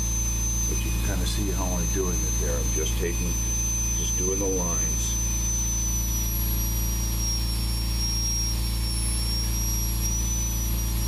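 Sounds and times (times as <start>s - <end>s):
power carver whining: 0.0s - 11.0s.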